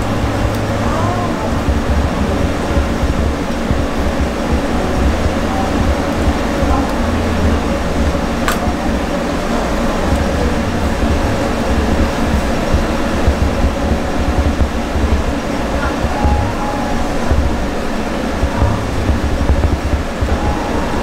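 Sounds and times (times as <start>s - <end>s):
kitchen machinery humming: 0.0s - 21.0s.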